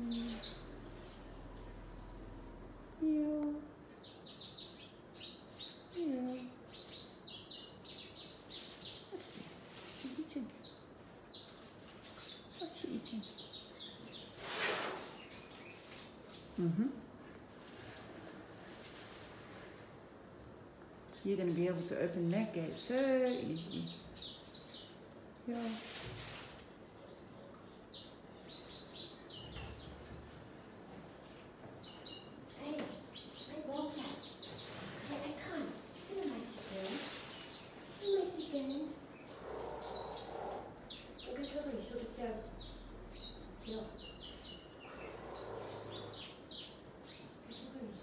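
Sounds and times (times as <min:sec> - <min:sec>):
small birds chirping: 0:00.0 - 0:02.2, 0:03.0 - 0:19.7, 0:20.3 - 0:48.0.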